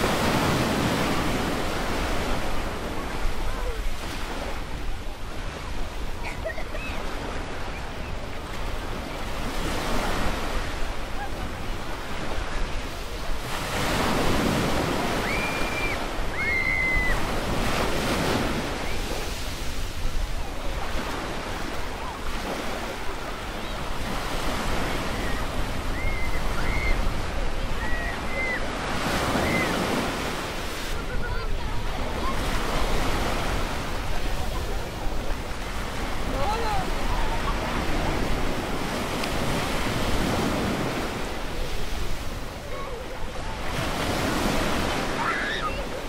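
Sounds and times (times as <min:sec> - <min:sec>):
waves breaking on beach: 0:00.0 - 0:46.0
wind: 0:00.0 - 0:46.0.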